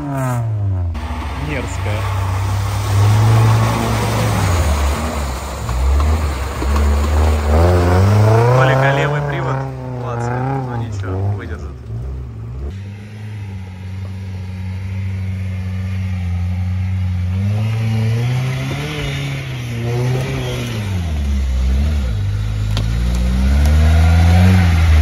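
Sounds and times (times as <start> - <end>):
off-road engine revving: 0.0 - 25.0.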